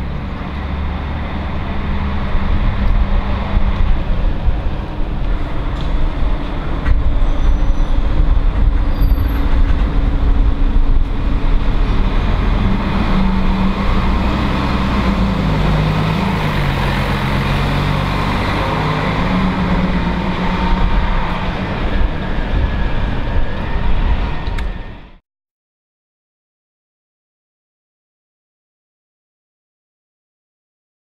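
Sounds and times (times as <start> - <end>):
bus engine rumbling: 0.0 - 25.2.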